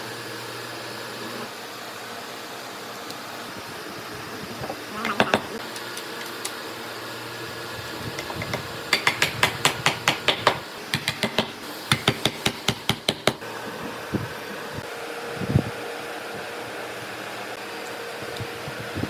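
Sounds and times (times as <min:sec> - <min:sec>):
steady fan-like hum: 0:00.0 - 0:19.0.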